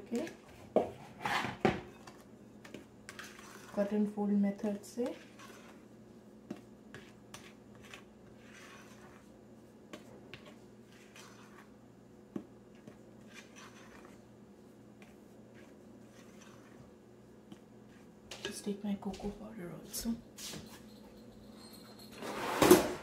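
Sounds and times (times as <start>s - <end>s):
spatula scraping batter: 0.0s - 18.6s.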